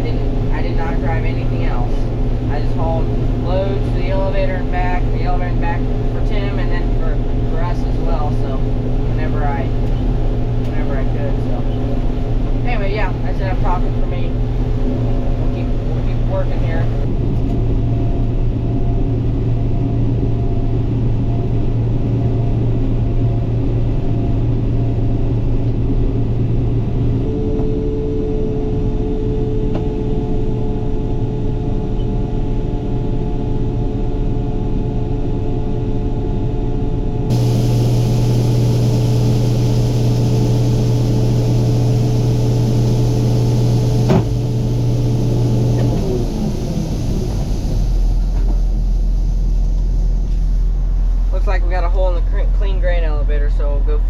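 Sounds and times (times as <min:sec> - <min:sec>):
combine engine drone: 0:00.0 - 0:54.0.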